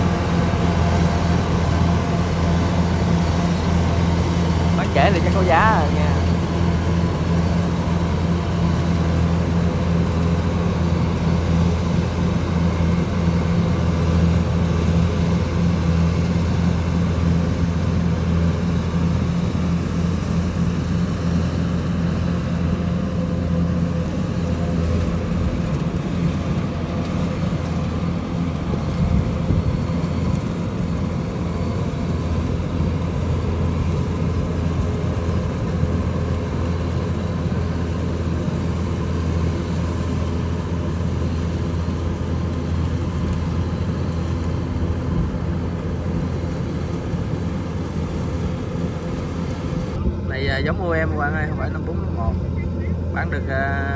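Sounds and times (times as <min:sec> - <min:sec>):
combine harvester diesel engine running: 0:00.0 - 0:53.9.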